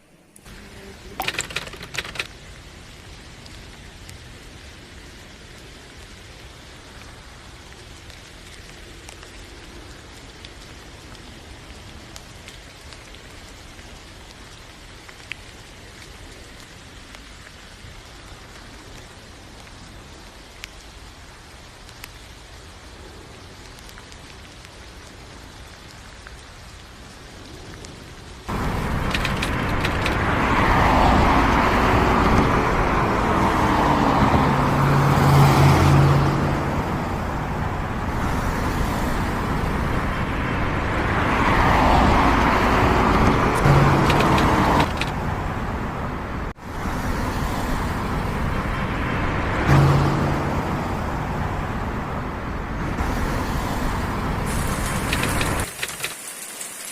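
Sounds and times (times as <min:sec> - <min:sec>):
vehicles passing on wet road: 0:00.0 - 0:56.9.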